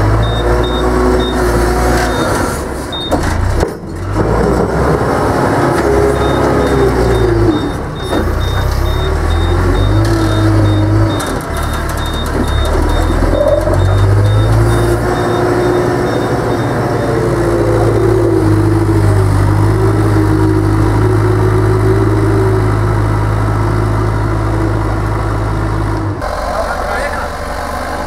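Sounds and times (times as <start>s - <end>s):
diesel engine running under load: 0.0s - 28.0s.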